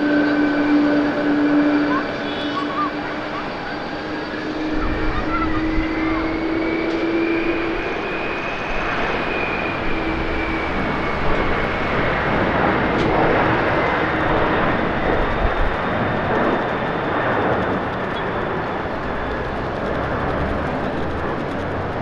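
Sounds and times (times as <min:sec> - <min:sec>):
jet engines roaring with fan whine: 0:00.0 - 0:22.0.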